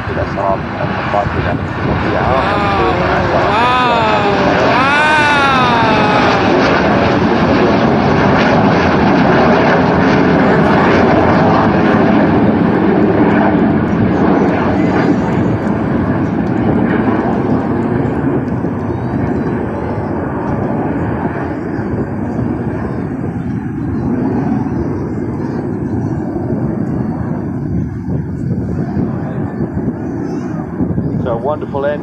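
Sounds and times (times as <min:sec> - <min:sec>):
jet aircraft engine rush: 0:00.0 - 0:32.0.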